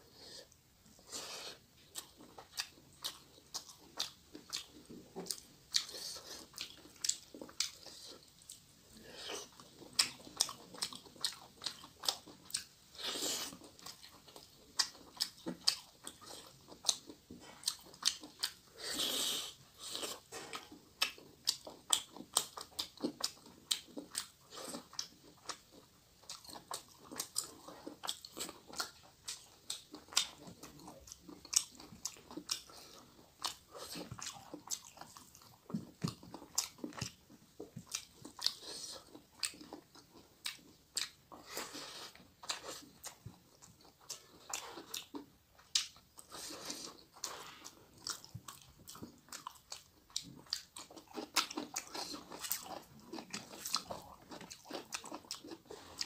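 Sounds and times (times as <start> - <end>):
chewing with mouth clicks: 0.4 - 56.0.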